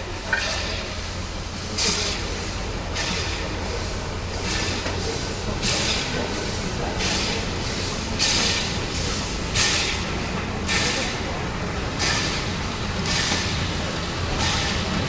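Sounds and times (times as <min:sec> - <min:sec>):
steam locomotive exhaust chuffs: 0:00.0 - 0:15.0
train low rumble: 0:00.0 - 0:15.0.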